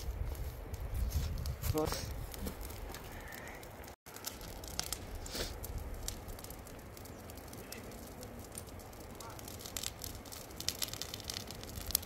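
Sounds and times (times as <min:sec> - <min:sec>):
steady low rumble: 0:00.0 - 0:12.0
light clicks and crackles: 0:00.2 - 0:12.0.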